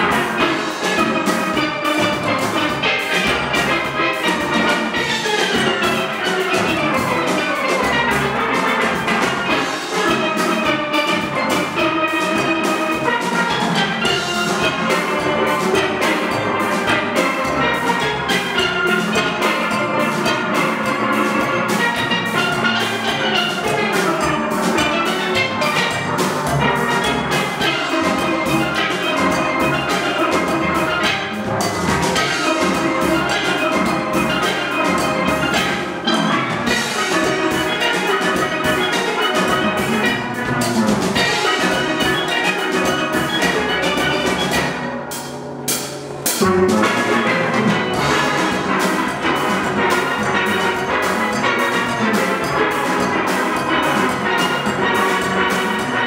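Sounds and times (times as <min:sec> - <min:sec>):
drum kit beat: 0:00.0 - 0:56.0
steel pan band playing: 0:00.0 - 0:56.0.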